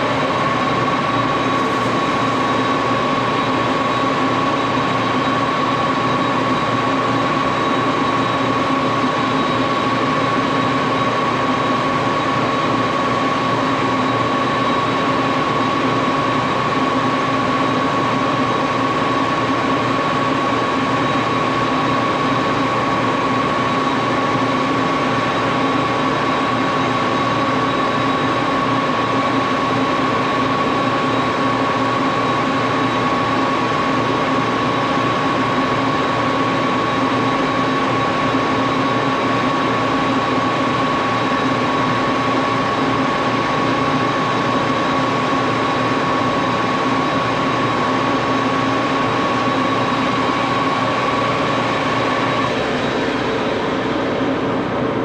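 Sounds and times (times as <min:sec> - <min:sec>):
lathe running with whine: 0:00.0 - 0:55.0.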